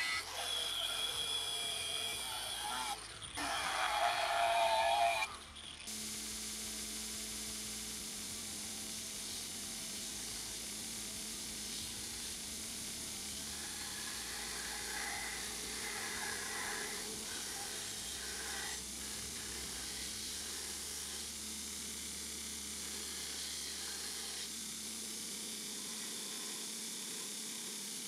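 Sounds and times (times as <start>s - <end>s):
belt grinder grinding steel blade: 0.0s - 6.0s, 7.2s - 28.0s.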